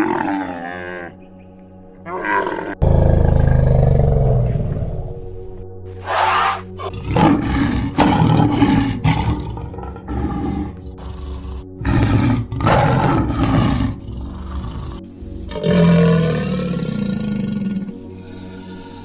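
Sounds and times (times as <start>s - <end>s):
big cat roaring and growling: 0.0s - 1.1s, 2.1s - 5.1s, 6.0s - 19.0s
faint background music: 0.0s - 19.0s.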